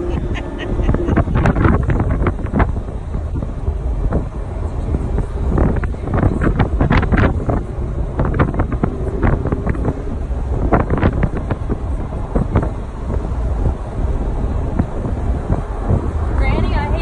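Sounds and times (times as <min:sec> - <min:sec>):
car engine and road rumble: 0:00.0 - 0:17.0
wind buffeting microphone: 0:00.0 - 0:17.0.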